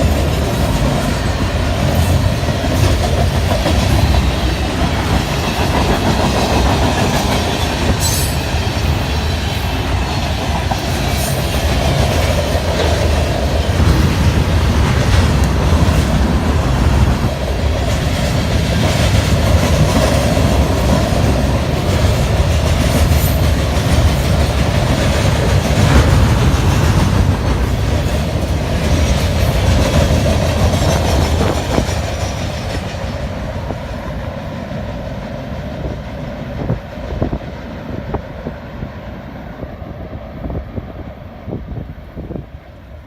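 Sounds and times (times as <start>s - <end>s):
train cars rumbling on rails: 0.0s - 43.0s.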